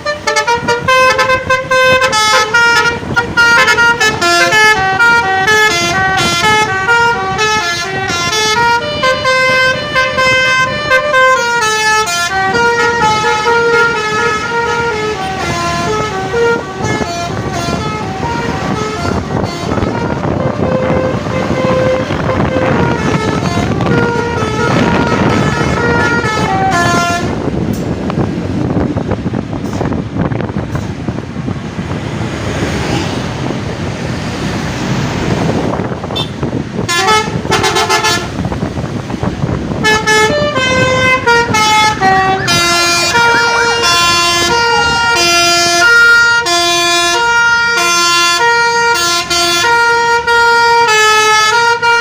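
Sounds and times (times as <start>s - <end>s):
musical air horn melody: 0.0s - 27.5s, 36.1s - 38.4s, 39.8s - 52.0s.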